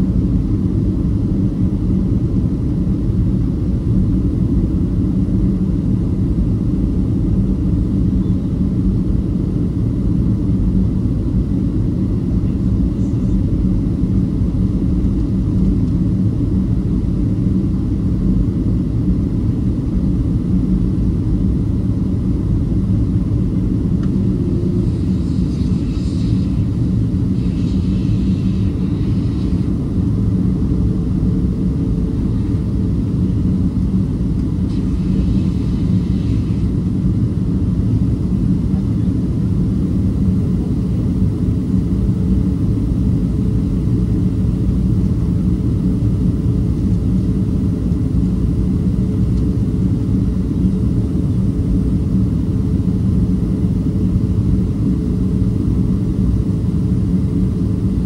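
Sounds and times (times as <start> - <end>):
airliner cabin engine rumble: 0.0 - 58.0
faint steady hum: 0.0 - 58.0.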